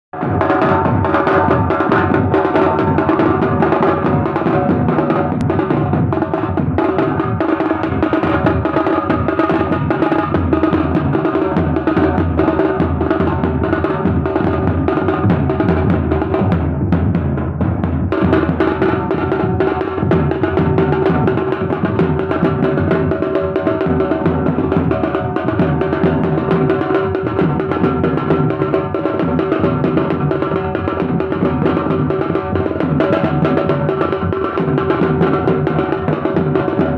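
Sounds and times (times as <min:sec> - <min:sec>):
drums beaten in fast rhythm: 0:00.1 - 0:36.9.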